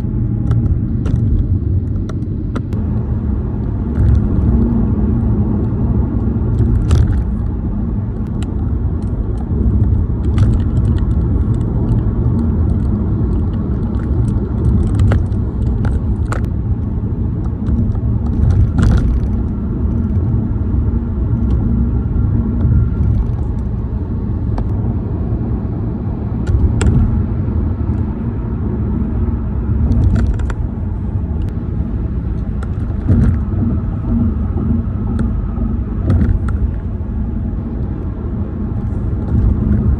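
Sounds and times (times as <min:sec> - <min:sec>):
tires rolling over pavement: 0:00.0 - 0:39.9.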